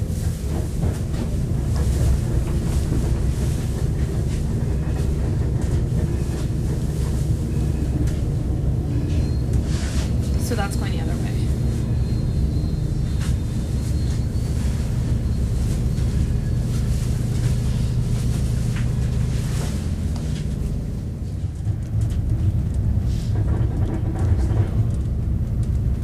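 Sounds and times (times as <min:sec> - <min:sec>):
train cabin low rumble: 0:00.0 - 0:26.0
train passing alongside: 0:00.0 - 0:26.0.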